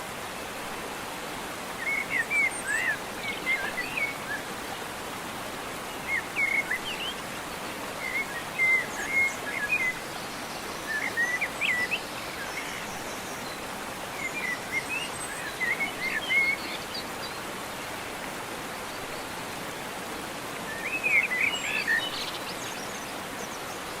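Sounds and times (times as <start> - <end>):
rushing water: 0.0 - 24.0
songbirds chirping: 1.0 - 24.0.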